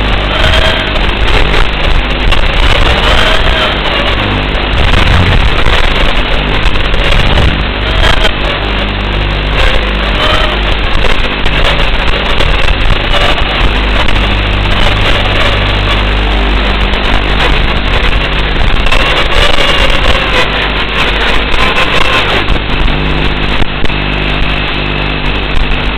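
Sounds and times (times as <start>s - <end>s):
micro-drone buzzing in flight: 0.0s - 25.9s.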